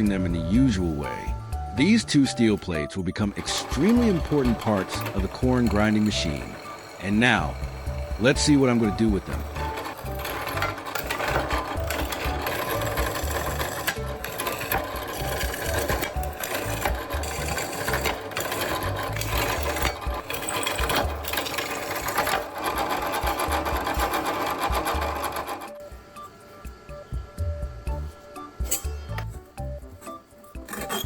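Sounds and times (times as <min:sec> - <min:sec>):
power tool on steel plate: 0:00.0 - 0:25.9, 0:27.8 - 0:31.0.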